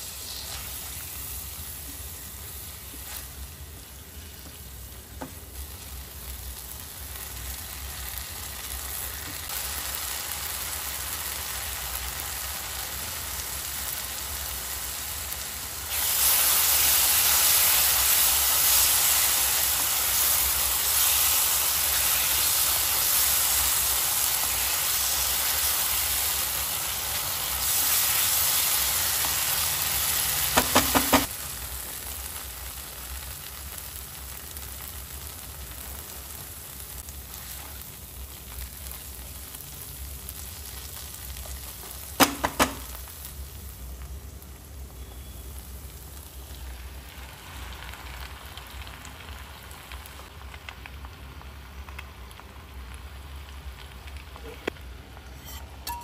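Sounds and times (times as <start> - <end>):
sauce sizzling in a pan: 0.0 - 56.0.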